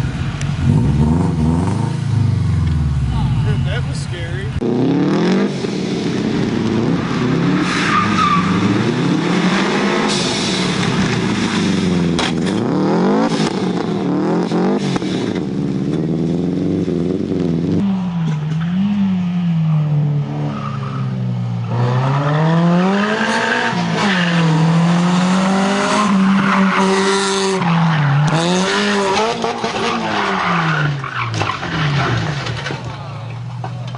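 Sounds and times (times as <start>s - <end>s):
sports car engine revving: 0.0s - 31.3s.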